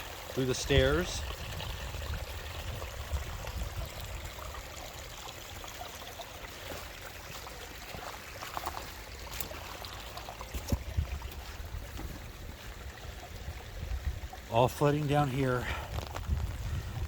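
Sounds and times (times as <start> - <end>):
runoff water trickling: 0.0 - 17.0.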